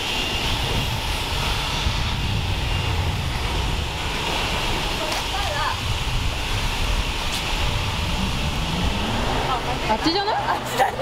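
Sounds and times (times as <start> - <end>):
car wash rumble and hiss: 0.0 - 11.0.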